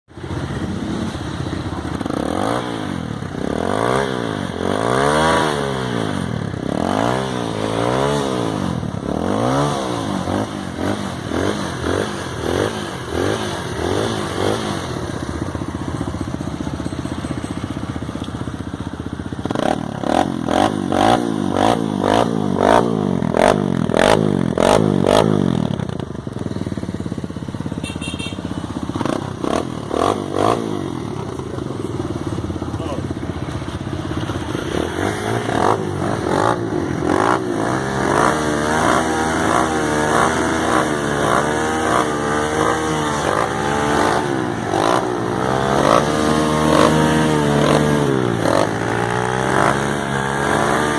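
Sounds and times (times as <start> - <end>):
motorcycle engine revving and idling: 0.1 - 50.9.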